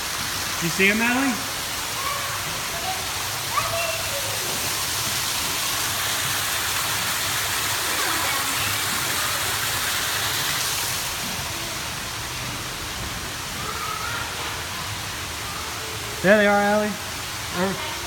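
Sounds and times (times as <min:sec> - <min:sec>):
waterfall pouring into pool: 0:00.0 - 0:18.0.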